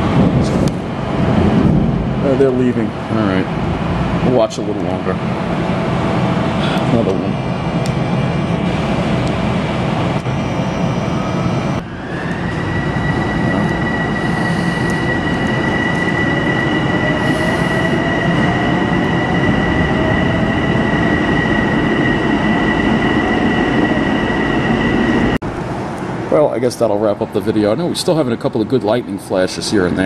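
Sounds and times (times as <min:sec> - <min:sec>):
train whine rising in pitch: 0:00.0 - 0:27.0.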